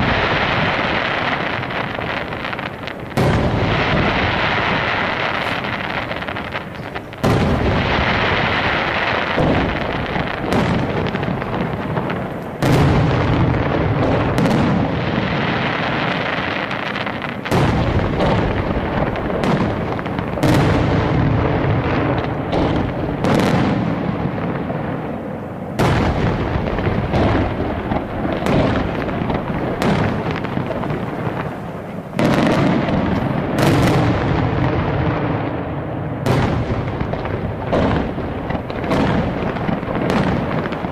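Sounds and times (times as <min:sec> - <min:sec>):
firework shells bursting: 0:00.0 - 0:40.9.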